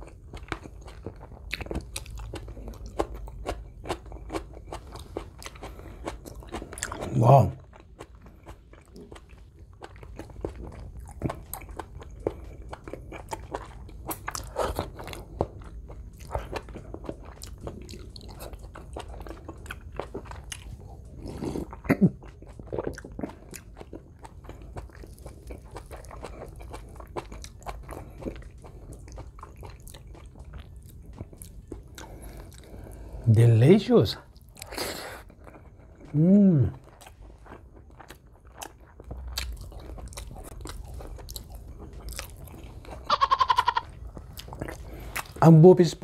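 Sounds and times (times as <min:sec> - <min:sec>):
chewing with wet smacks: 0:00.0 - 0:46.0.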